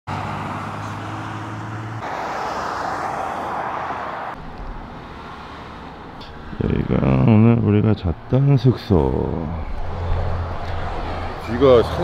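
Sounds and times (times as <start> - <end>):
car passing on highway: 0.1 - 12.0
outdoor ambience: 0.1 - 12.0.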